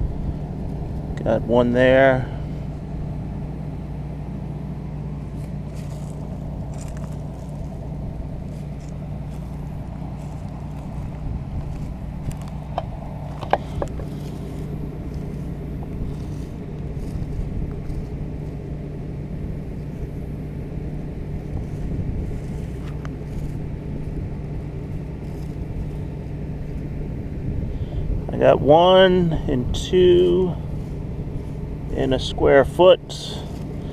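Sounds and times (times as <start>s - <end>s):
engine running with low hum: 0.0s - 33.9s.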